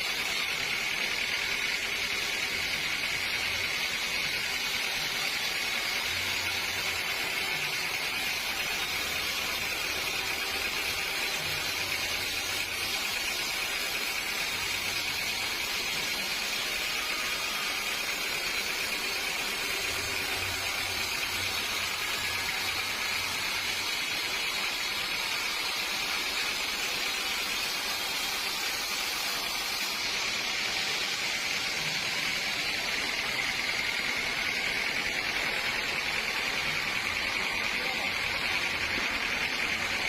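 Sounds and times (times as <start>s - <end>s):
sawmill machinery hiss and whine: 0.0s - 40.0s.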